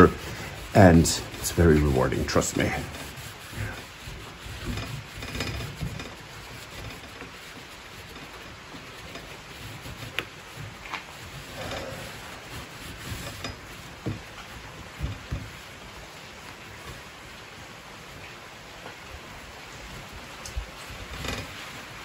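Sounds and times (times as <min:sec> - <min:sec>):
rag rubbing wood: 0:00.0 - 0:17.1, 0:20.6 - 0:22.0
heavy rain hiss: 0:00.0 - 0:22.0.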